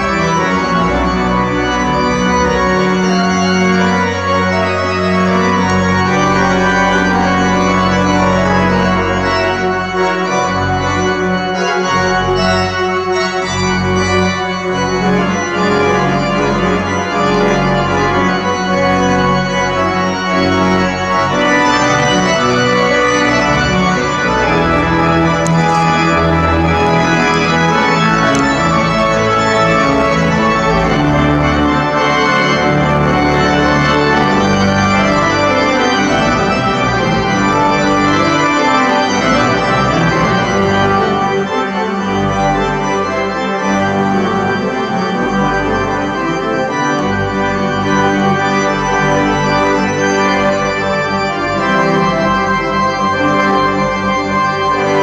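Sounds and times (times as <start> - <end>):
pipe organ playing loud chords: 0.0 - 55.0.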